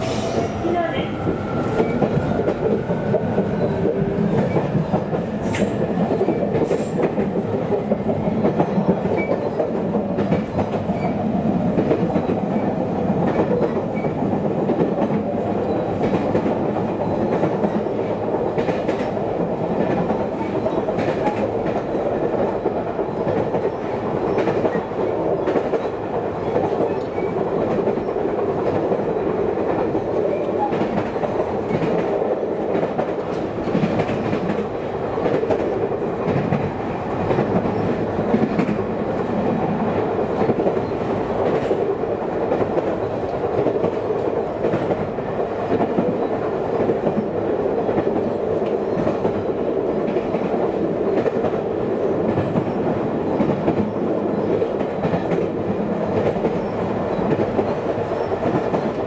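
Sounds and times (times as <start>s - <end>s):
electric train rumble: 0.0s - 59.0s.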